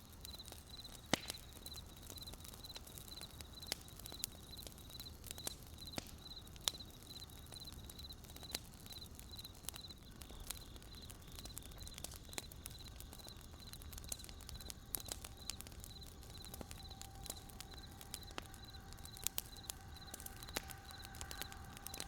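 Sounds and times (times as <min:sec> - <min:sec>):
wood fire crackling and popping: 0:00.0 - 0:22.0
crickets chirping: 0:00.1 - 0:22.0.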